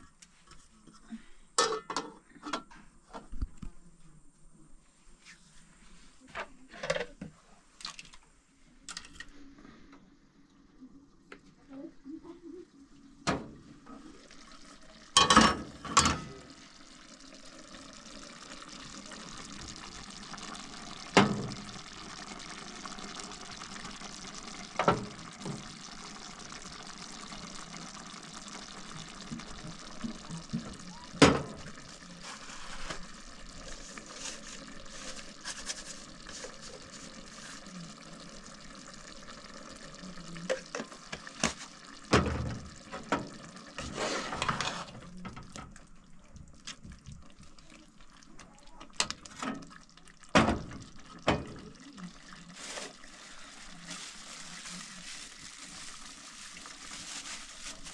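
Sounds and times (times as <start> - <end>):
sauce simmering and bubbling: 9.6 - 57.9.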